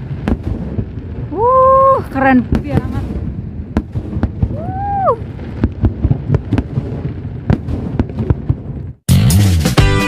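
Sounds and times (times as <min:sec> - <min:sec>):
fireworks cracks and bangs: 0:00.0 - 0:09.1.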